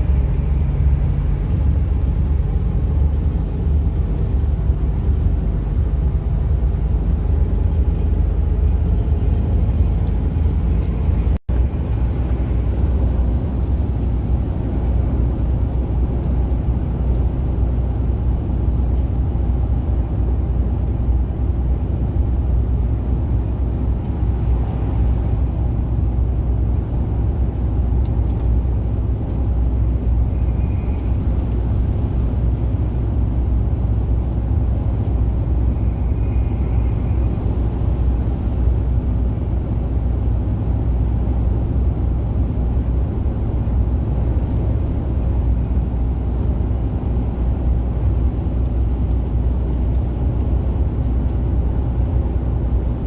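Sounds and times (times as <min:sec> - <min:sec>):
road and tyre noise: 0:00.0 - 0:53.0
truck engine drone: 0:00.0 - 0:53.0.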